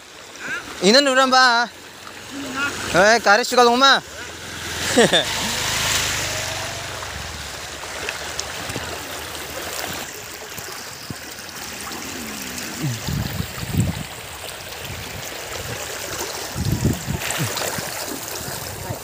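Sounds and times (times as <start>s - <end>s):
water swishing around bicycle wheel: 0.0s - 19.0s.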